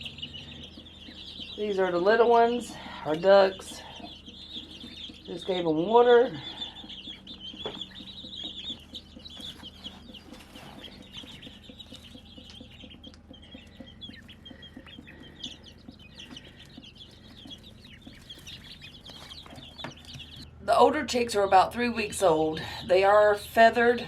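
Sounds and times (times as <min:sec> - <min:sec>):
chicks and ducklings peeping: 0:00.0 - 0:24.0.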